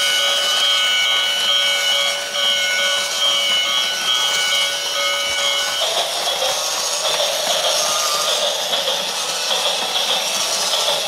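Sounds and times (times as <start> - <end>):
toy train rasping: 0.0 - 11.0.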